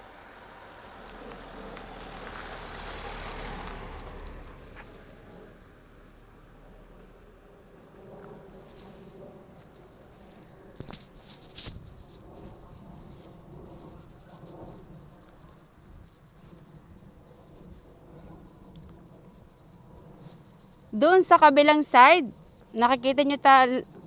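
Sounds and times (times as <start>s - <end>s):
insects chirping: 0.0s - 4.8s, 8.5s - 24.0s.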